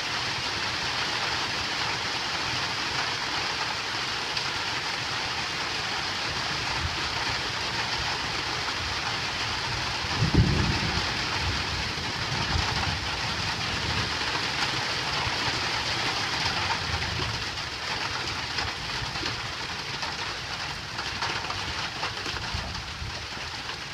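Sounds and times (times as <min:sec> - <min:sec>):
heavy rain on a tin roof: 0:00.0 - 0:23.9.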